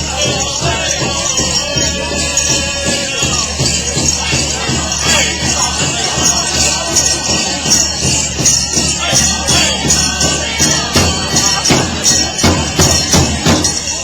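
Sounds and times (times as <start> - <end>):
large drum beating: 0.0 - 14.0
metallic jingling: 0.0 - 14.0.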